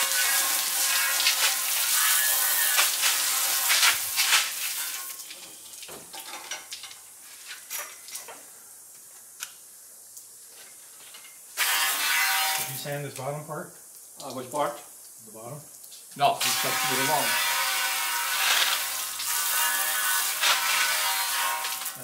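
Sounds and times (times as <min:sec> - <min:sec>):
garden hose spraying water: 0:00.0 - 0:22.0.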